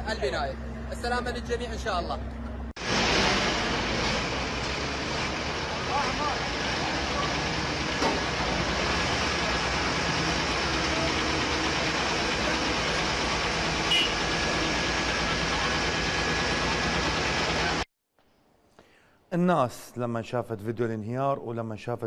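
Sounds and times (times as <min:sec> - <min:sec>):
heavy truck engine running: 0:00.0 - 0:17.9.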